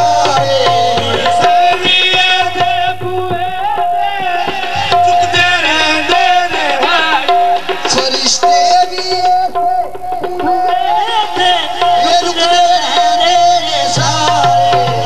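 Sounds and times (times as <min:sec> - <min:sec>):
harmonium tone: 0:00.0 - 0:15.0
tabla strokes: 0:00.0 - 0:15.0
voices singing: 0:00.0 - 0:15.0.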